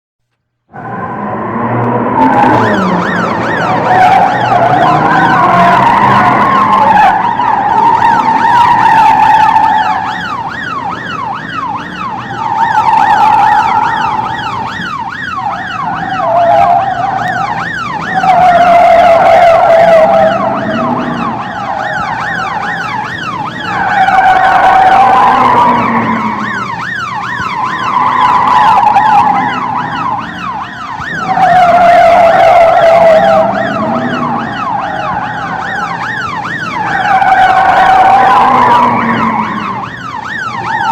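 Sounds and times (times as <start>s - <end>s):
car engines: 0.3s - 40.9s
police sirens wailing: 0.7s - 40.9s
siren fast yelp: 0.7s - 40.9s.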